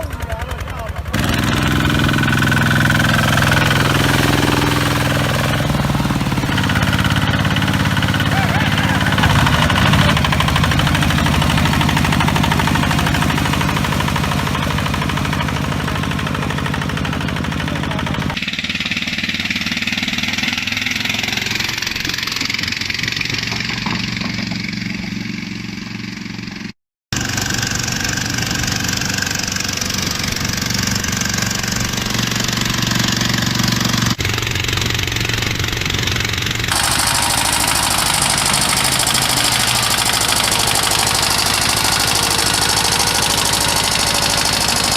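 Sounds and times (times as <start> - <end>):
walk-behind tractor engine running: 0.0 - 44.9.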